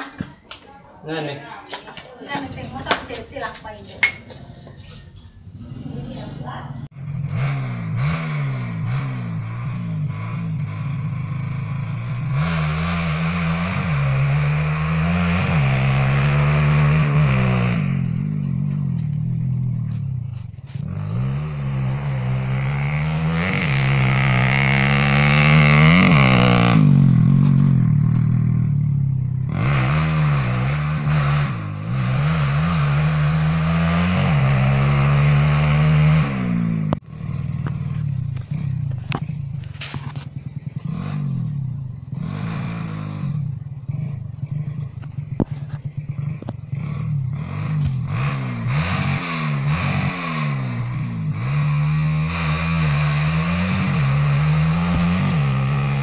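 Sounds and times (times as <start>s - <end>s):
motorcycle engine revving hard: 5.5s - 56.0s.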